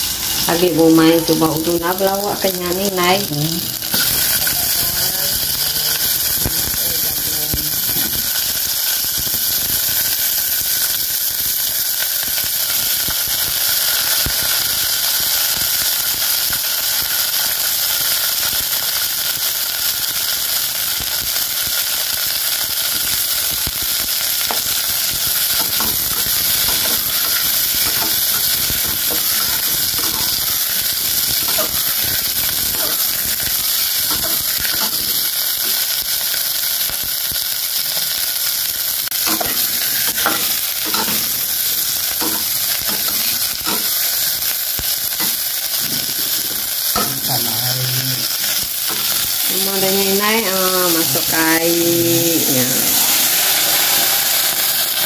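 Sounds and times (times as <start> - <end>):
frying sizzle in a pot: 0.0 - 55.0.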